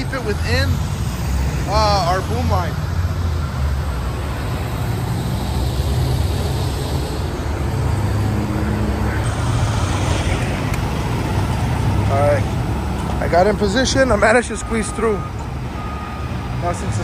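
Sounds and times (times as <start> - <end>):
diesel truck engines running: 0.0 - 17.0
freeway traffic noise: 0.0 - 17.0.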